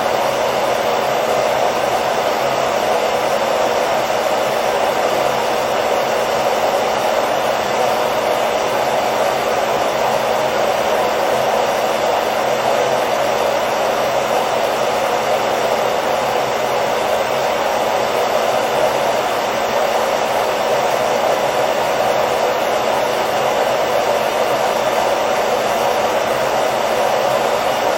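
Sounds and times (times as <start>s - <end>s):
hairdryer running: 0.0s - 27.9s.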